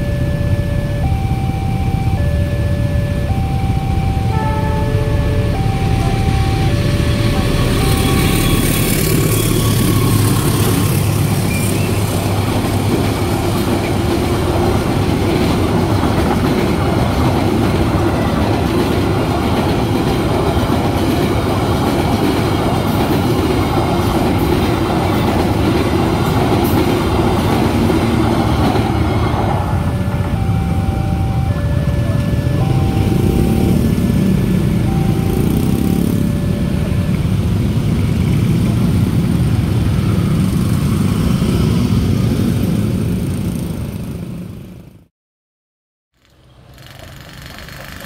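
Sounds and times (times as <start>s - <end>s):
train wheels rumbling on rails: 0.0s - 44.7s.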